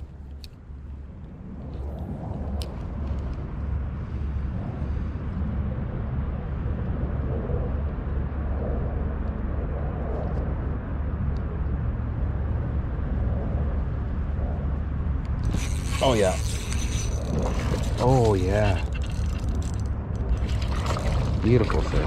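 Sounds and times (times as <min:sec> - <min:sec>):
wind buffeting the microphone: 0:00.0 - 0:22.0.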